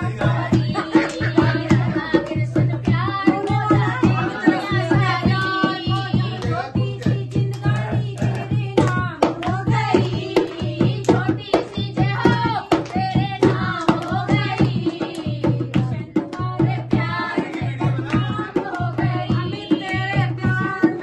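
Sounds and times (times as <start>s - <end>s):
hand drum beat: 0.0s - 21.0s
women singing devotional song: 0.0s - 21.0s
hand clapping: 0.6s - 6.6s, 7.4s - 20.7s.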